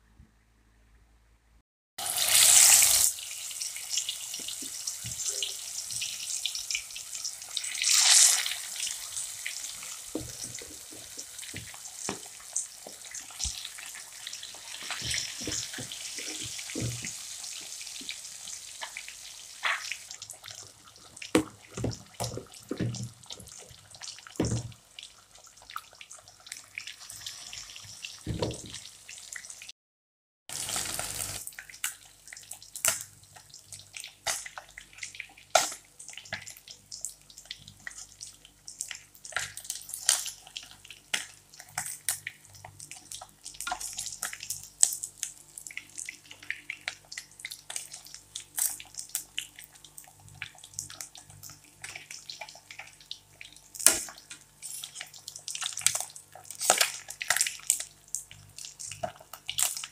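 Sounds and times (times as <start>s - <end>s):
fish sizzling in hot oil: 2.0s - 29.7s, 30.5s - 59.9s
oil crackling and popping: 2.0s - 29.7s, 30.5s - 59.9s.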